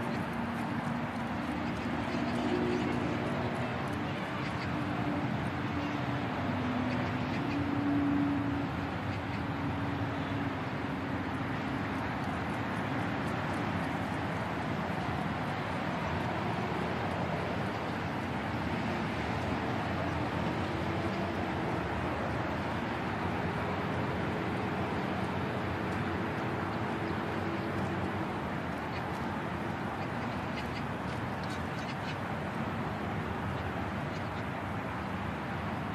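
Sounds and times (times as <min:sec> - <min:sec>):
vehicle engine hum: 0:00.0 - 0:35.6
road traffic: 0:00.0 - 0:35.9.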